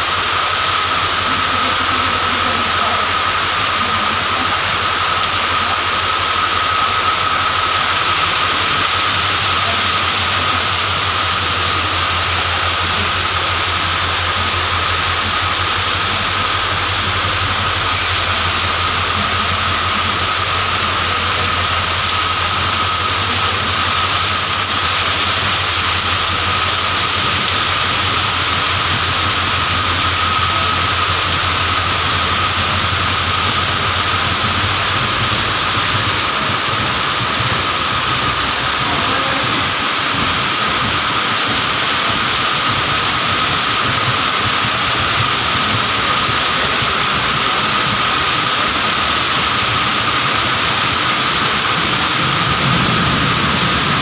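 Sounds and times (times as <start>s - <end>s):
thin steady whine: 0.0s - 54.0s
train wheels rumbling on track: 0.0s - 54.0s.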